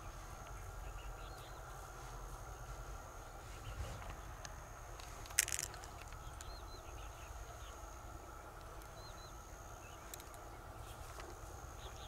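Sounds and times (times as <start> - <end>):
high insect tone: 0.0 - 12.0.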